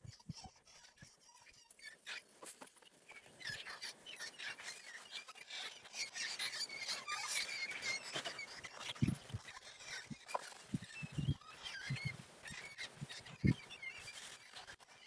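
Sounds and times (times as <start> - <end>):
rats squeaking: 0.0 - 15.0.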